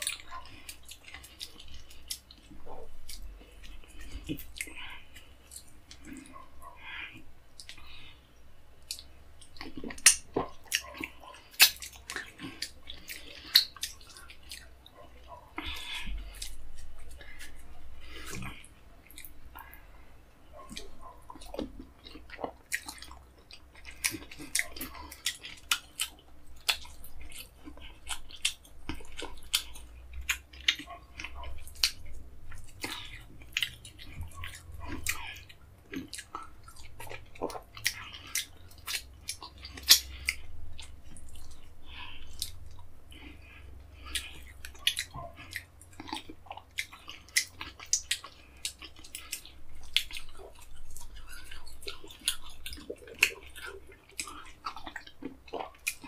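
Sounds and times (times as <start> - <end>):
open-mouthed chewing: 0.0 - 56.0.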